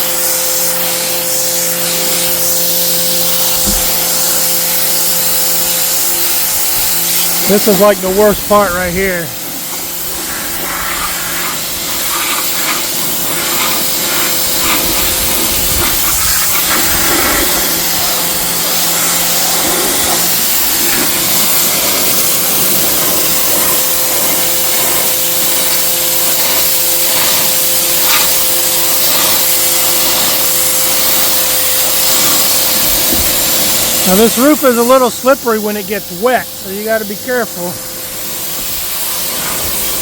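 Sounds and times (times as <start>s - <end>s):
pressure washer spraying roof: 0.0s - 40.0s
steady hum: 0.0s - 40.0s.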